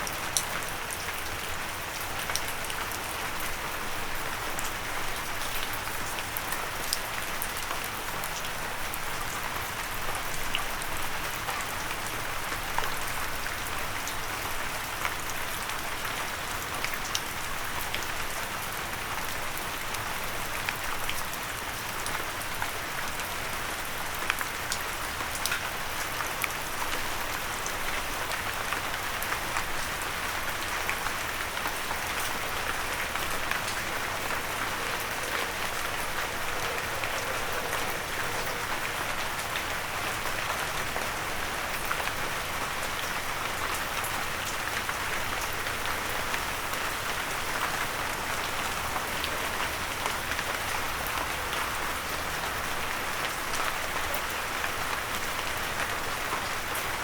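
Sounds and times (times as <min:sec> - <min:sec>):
rain pattering on a windowsill: 0:00.0 - 0:57.0.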